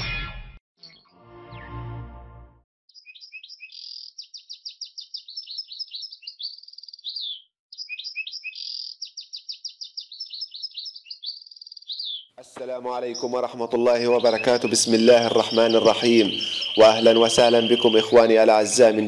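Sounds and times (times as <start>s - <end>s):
finch singing trilled notes: 2.9s - 19.0s.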